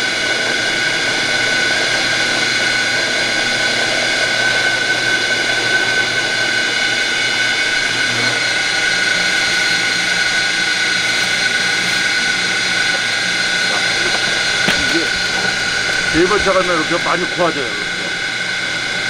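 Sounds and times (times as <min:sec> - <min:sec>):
juicing machine whining: 0:00.0 - 0:19.0.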